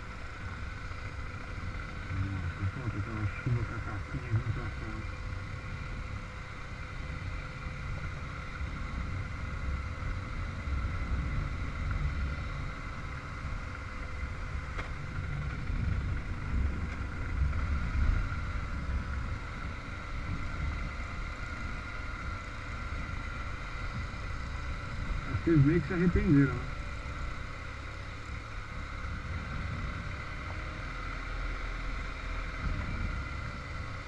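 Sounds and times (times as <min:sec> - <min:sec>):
motorcycle engine whine: 0:00.0 - 0:34.0
wind and road rumble: 0:00.0 - 0:34.0.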